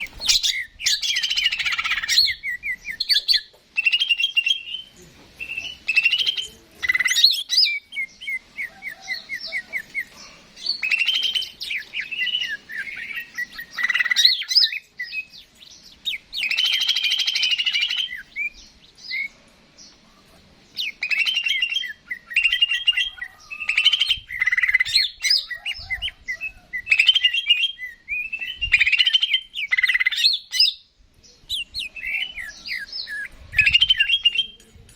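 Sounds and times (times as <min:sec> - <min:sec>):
bird singing chattering song: 0:00.0 - 0:34.9.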